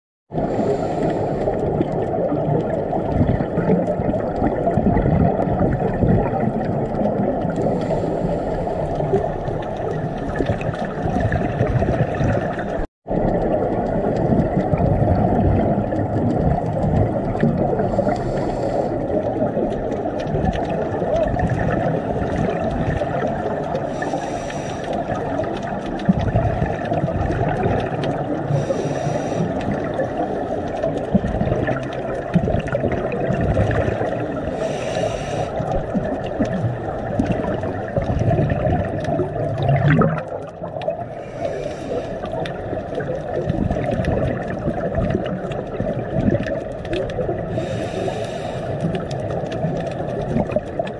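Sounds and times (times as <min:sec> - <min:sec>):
regulator bubbles hissing: 0:00.3 - 0:50.9
underwater rumble: 0:00.3 - 0:50.9.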